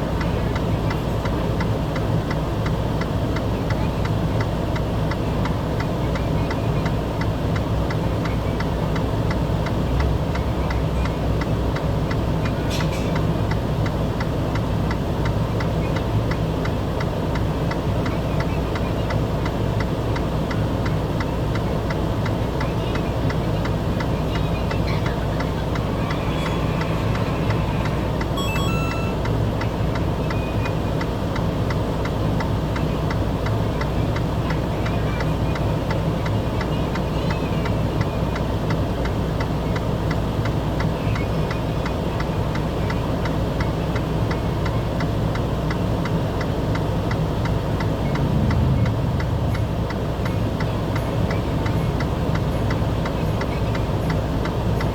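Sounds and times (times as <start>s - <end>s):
vehicle engine and road drone: 0.0s - 54.9s.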